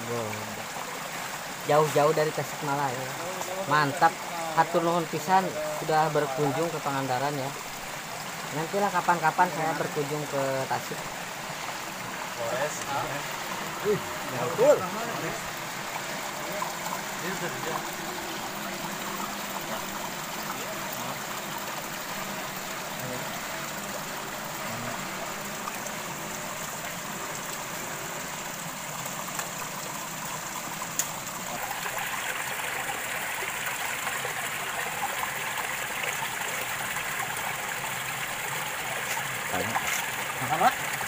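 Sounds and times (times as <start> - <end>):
stream running over stones: 0.0 - 41.0.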